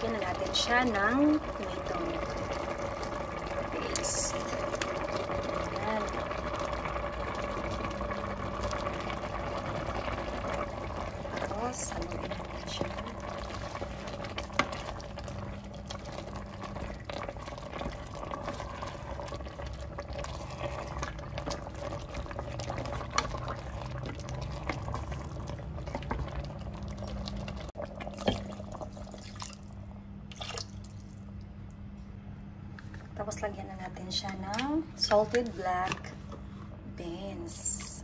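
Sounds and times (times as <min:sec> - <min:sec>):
wet stirring and sloshing of stew: 0:00.0 - 0:31.5.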